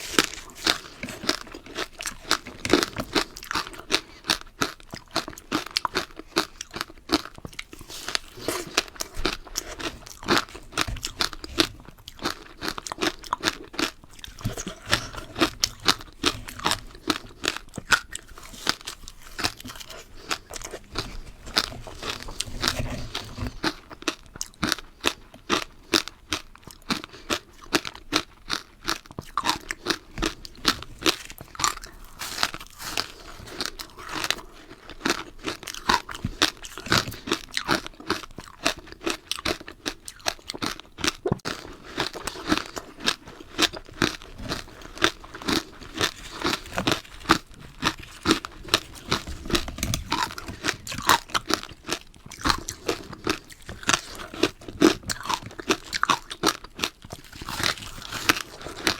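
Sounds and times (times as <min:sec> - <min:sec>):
crunching ice: 0:00.0 - 0:58.9.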